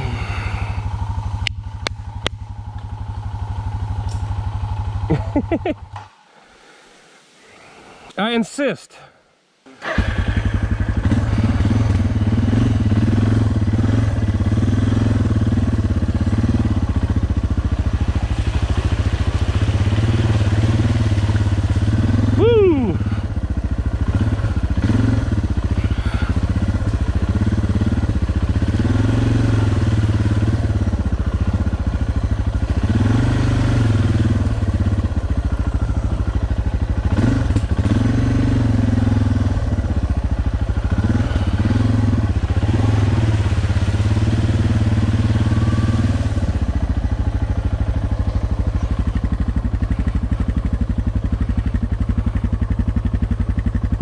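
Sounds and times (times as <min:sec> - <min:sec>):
motorcycle engine revving: 0:00.0 - 0:06.2, 0:09.7 - 0:54.0.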